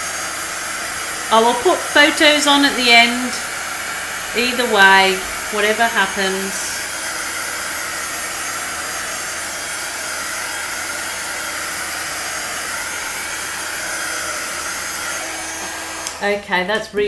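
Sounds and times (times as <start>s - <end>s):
hair dryer blowing: 0.0s - 16.8s.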